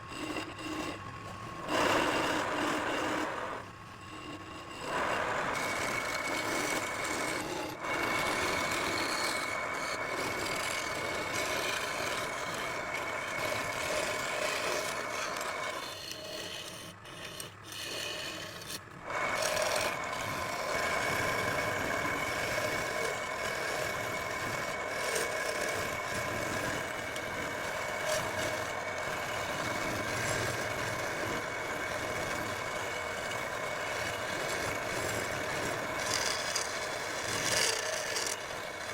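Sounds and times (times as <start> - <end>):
lathe high whine: 0.0 - 38.9
tool rasping on wood lathe: 0.0 - 38.9.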